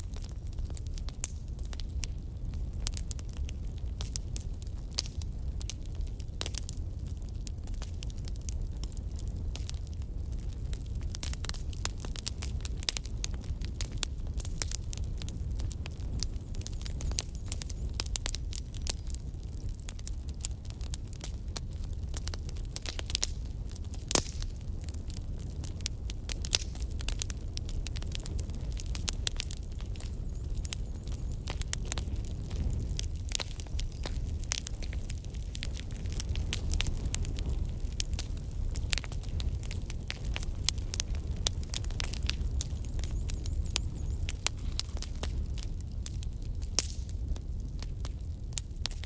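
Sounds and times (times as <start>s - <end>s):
fire crackling and popping: 0.0s - 49.0s
low rumble of flames: 0.0s - 49.0s.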